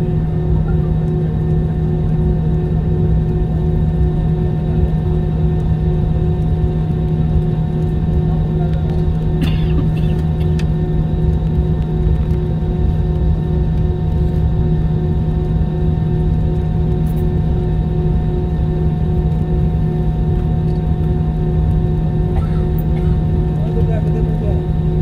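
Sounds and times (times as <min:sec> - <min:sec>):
airliner cabin engine hum: 0:00.0 - 0:25.0.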